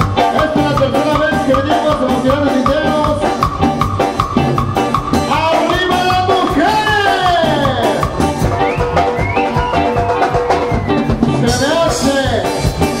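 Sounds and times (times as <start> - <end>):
drum kit beat: 0.0 - 13.0
live band playing dance music: 0.0 - 13.0.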